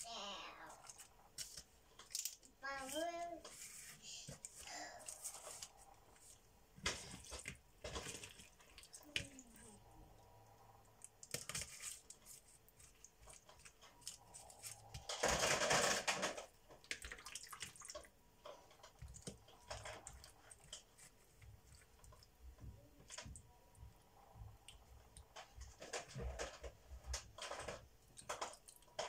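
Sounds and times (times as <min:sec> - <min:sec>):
small clicks and rustles: 0:00.0 - 0:29.0.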